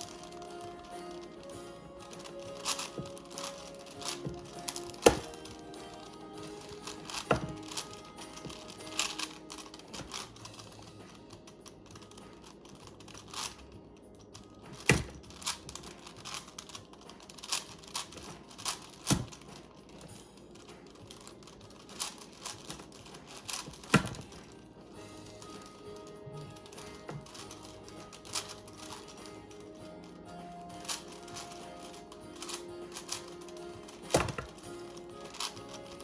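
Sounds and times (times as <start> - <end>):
puzzle cube layers clicking: 0.0 - 24.6, 25.2 - 36.0.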